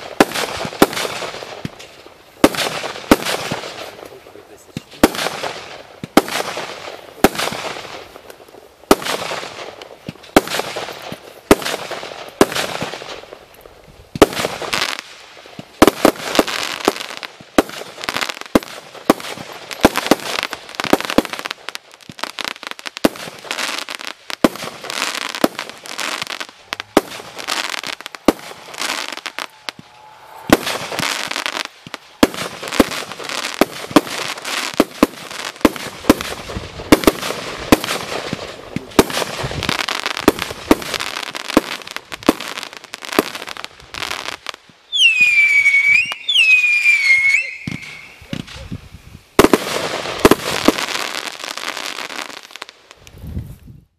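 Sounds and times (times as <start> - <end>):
fireworks shots and bursts: 0.0 - 53.4
firework hissing: 0.0 - 53.6.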